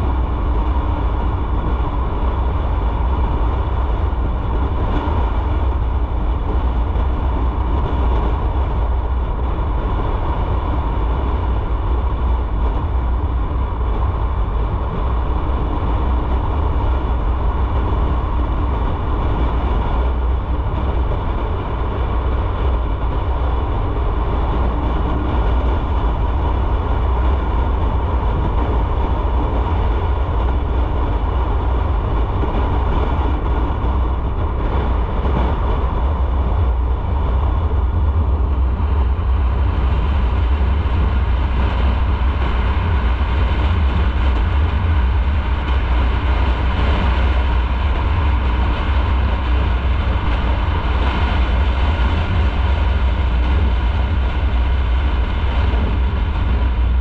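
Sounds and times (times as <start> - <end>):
motorcycle engine at constant revs: 0.0 - 57.0
wind and road noise: 0.0 - 57.0.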